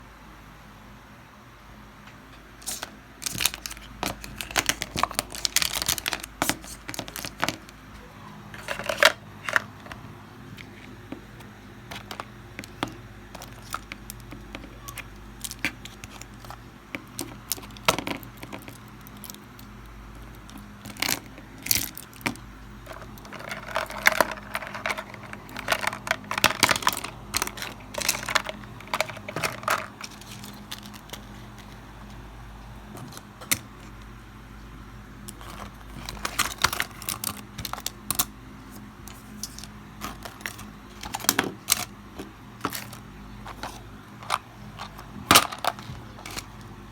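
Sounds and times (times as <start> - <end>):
steady low hum: 0.0 - 46.9
small objects clattering on desk: 2.6 - 7.9, 8.5 - 31.8, 35.2 - 38.3, 39.1 - 46.7.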